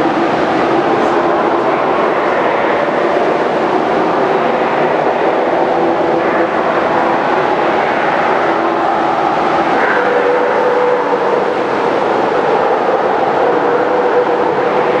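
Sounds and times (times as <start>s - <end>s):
sea lions barking and groaning: 0.0s - 15.0s
surf washing: 0.0s - 15.0s.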